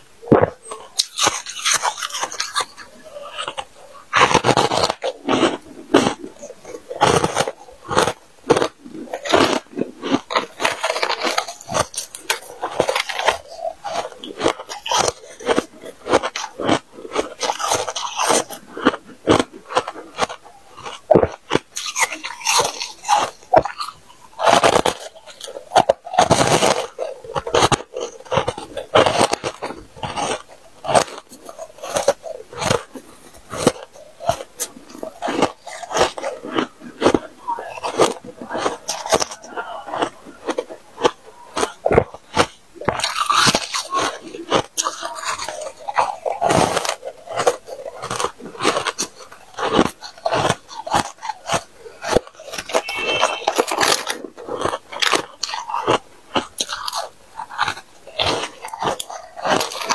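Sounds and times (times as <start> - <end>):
crunching and chewing frost: 0.0 - 59.9.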